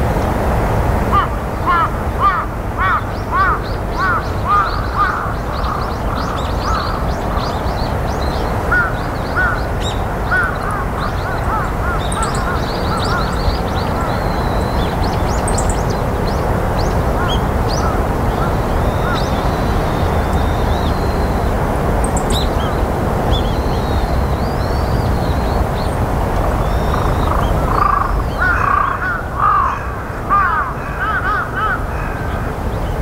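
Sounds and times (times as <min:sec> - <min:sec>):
low wind rumble: 0:00.0 - 0:33.0
wild birds calling: 0:01.1 - 0:33.0.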